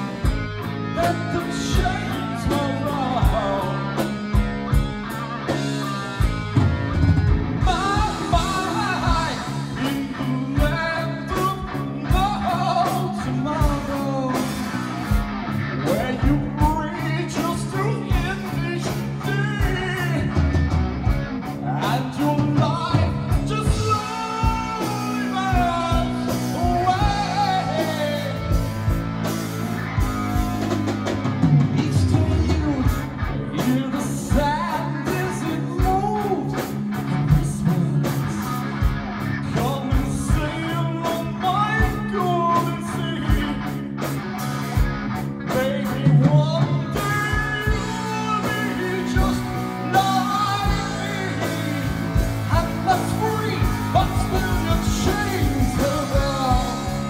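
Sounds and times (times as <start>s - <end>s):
person singing: 0.0s - 4.5s, 7.6s - 14.9s, 15.8s - 20.6s, 21.5s - 28.7s, 30.0s - 38.6s, 39.4s - 43.8s, 45.4s - 57.0s
bass guitar: 0.0s - 57.0s
distorted electric guitar lead: 0.0s - 57.0s
drums: 0.0s - 57.0s.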